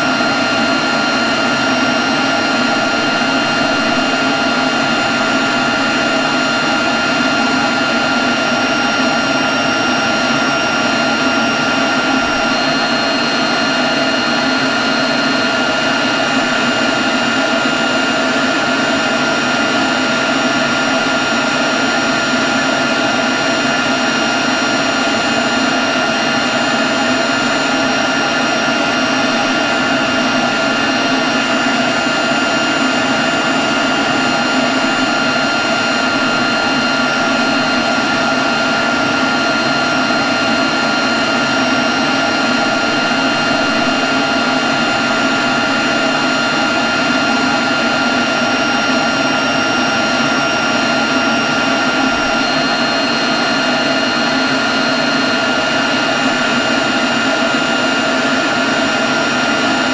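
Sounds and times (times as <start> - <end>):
leaf blower running: 0.0 - 59.9.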